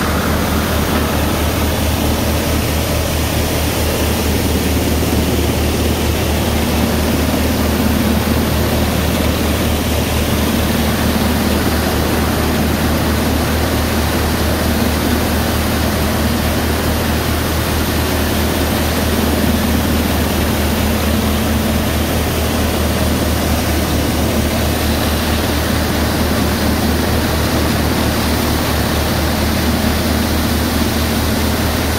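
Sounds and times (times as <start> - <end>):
thresher drum and fan whirring: 0.0 - 31.9
tractor engine hum: 0.0 - 31.9.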